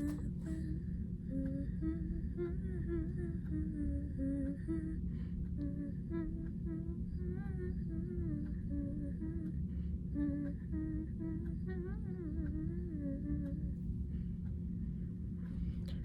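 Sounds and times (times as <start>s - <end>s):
woman humming softly: 0.0s - 13.8s
low background rumble: 0.0s - 16.0s.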